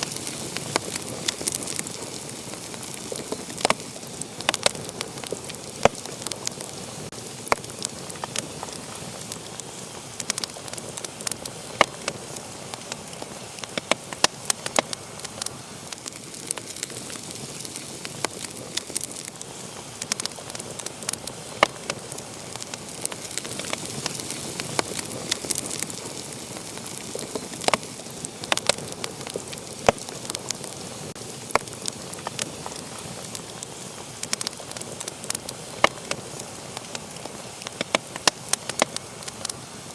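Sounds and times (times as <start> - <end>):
fire crackles and pops: 0.0 - 39.9
wood fire hissing: 0.0 - 39.9.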